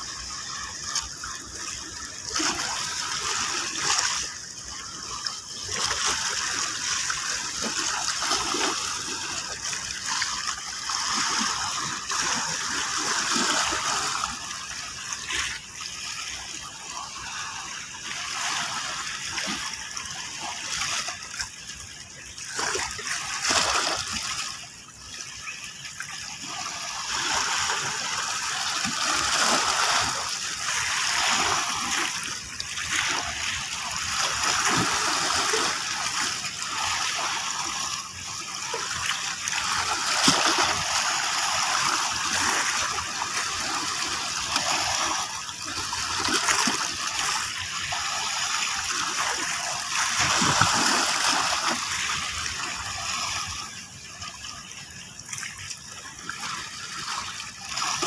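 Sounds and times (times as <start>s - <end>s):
sea waves splashing over rocks: 0.0s - 24.8s, 26.3s - 54.6s.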